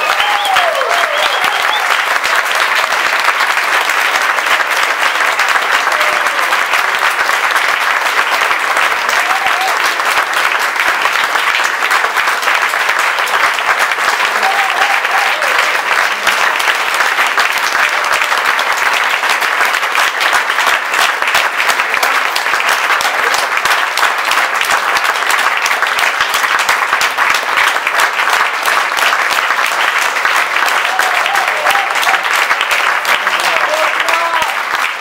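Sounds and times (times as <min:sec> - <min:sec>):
audience clapping: 0:00.0 - 0:35.0.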